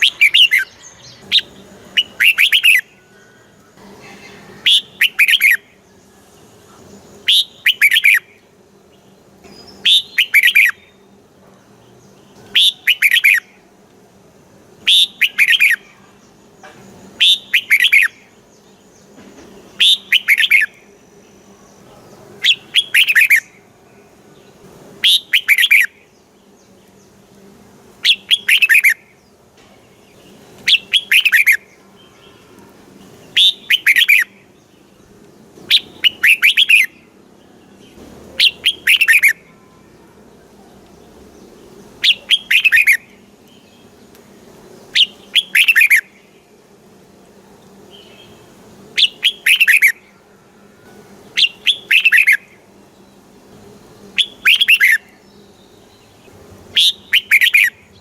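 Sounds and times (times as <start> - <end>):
bird singing bright phrases: 0.0 - 13.7, 14.8 - 58.0.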